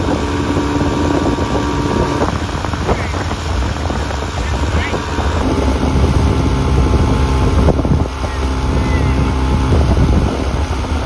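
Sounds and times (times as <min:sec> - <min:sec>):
motorboat engine running: 0:00.0 - 0:11.0
water rushing: 0:00.0 - 0:11.0
wind buffeting microphone: 0:00.0 - 0:11.0.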